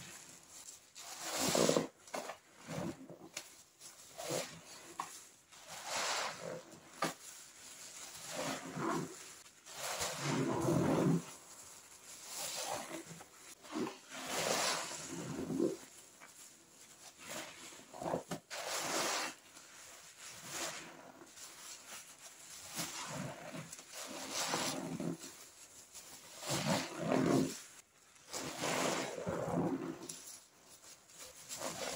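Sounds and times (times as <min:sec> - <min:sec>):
wet squelching of soapy cleaner: 0:00.0 - 0:31.9.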